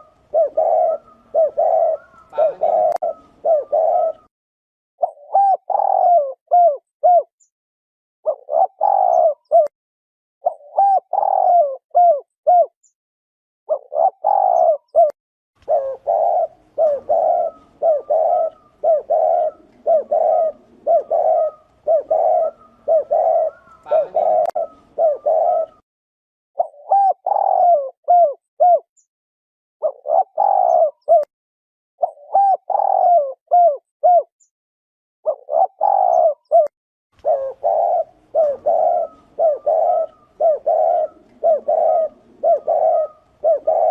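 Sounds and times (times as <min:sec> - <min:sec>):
dove cooing: 0:00.0 - 0:04.3, 0:05.0 - 0:07.3, 0:08.2 - 0:09.7, 0:10.4 - 0:12.8, 0:13.7 - 0:25.8, 0:26.6 - 0:28.9, 0:29.8 - 0:31.3, 0:32.0 - 0:34.3, 0:35.3 - 0:43.9.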